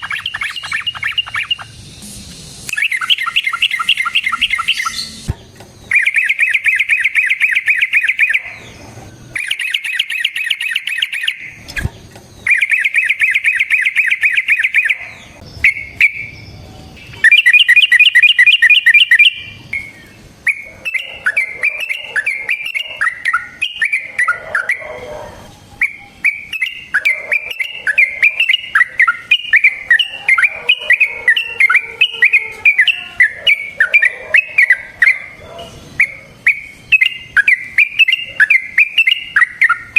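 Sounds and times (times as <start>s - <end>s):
bulbul singing rapid trills: 0.0s - 39.9s.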